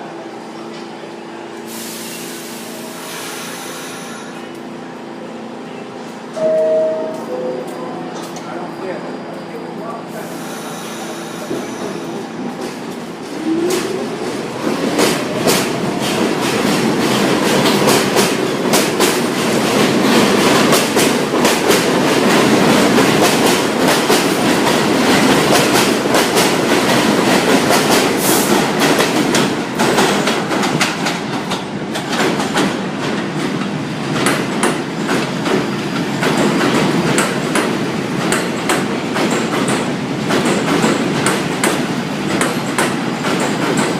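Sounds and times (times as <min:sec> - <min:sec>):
subway train wheels clattering: 0:00.0 - 0:43.9.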